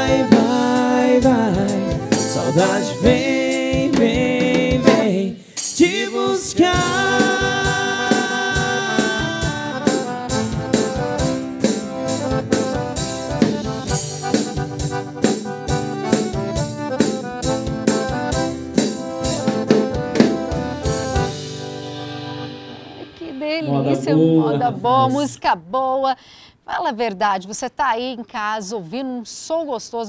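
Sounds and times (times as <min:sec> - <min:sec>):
accordion: 0:00.0 - 0:05.3, 0:05.9 - 0:24.9
acoustic guitar chords: 0:00.0 - 0:25.3
drum kit beat: 0:00.0 - 0:25.3.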